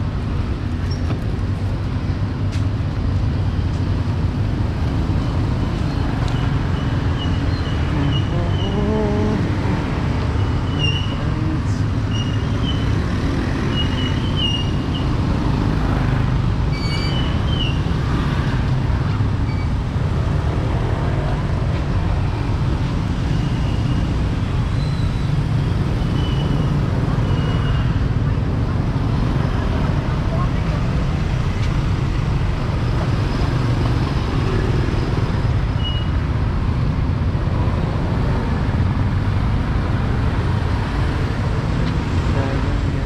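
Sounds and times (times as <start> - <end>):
street traffic rumble: 0.0 - 43.0.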